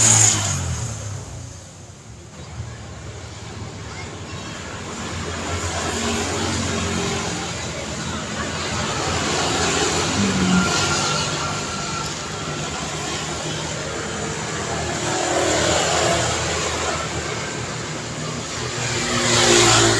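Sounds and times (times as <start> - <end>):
road traffic passing: 0.0 - 19.9.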